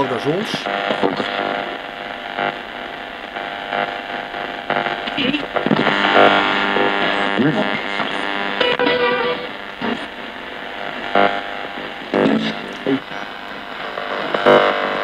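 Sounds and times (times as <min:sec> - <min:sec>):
snatches of broadcast music: 0:00.0 - 0:02.8, 0:03.4 - 0:15.0
radio hiss: 0:00.0 - 0:15.0
radio tuner sweeping stations: 0:00.0 - 0:15.0.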